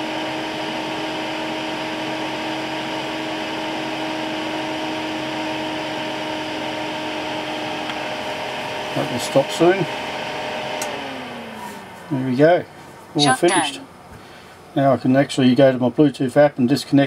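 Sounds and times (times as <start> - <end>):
blower fan whirring: 0.0 - 14.8.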